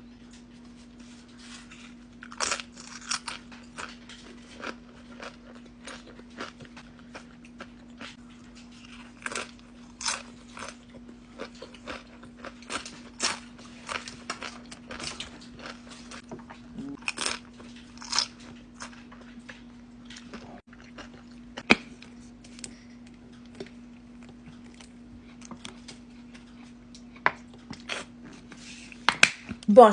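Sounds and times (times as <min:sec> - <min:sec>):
steady low hum: 0:00.0 - 0:29.9
chewing crunchy food: 0:00.2 - 0:29.1.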